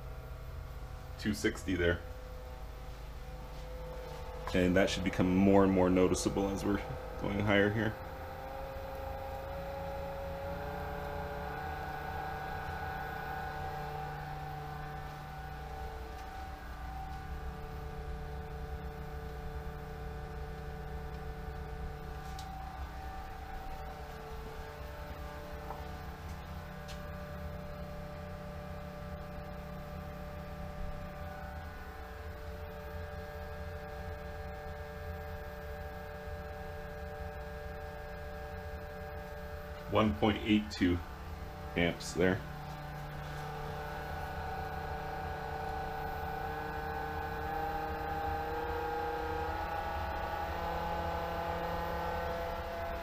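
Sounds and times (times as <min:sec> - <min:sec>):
pool pump motor hum and whine: 0:00.0 - 0:53.0.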